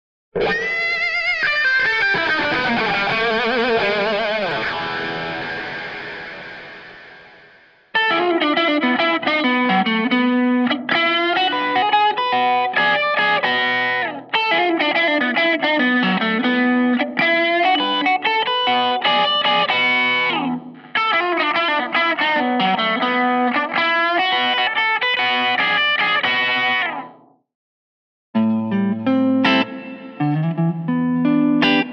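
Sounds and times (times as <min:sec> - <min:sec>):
electric guitar through amp: 0:00.4 - 0:27.2, 0:28.4 - 0:31.9.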